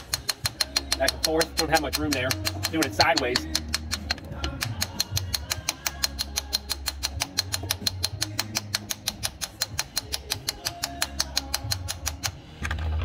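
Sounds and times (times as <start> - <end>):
hammer tapping metal: 0.0 - 12.3.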